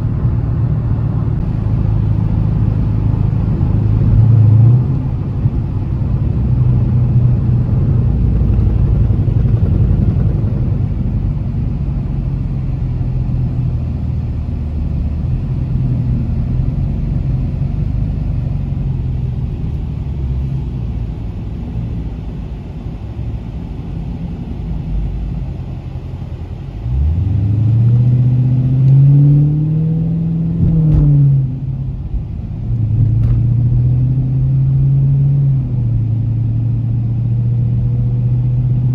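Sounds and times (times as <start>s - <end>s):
car engine droning and accelerating: 0.0s - 38.9s.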